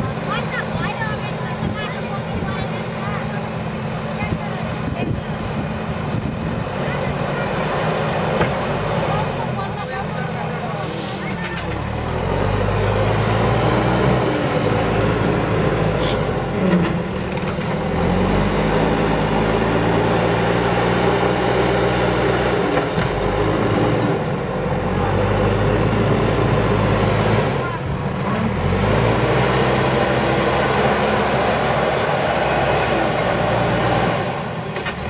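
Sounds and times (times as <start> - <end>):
backhoe diesel engine under load: 0.0 - 35.0.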